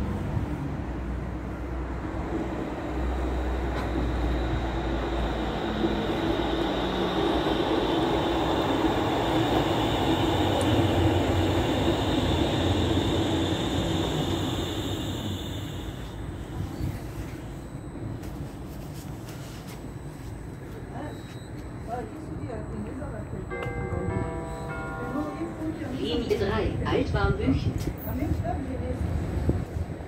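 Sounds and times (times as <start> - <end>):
tram rolling and motor noise: 0.0 - 30.0
high whine: 2.1 - 27.8.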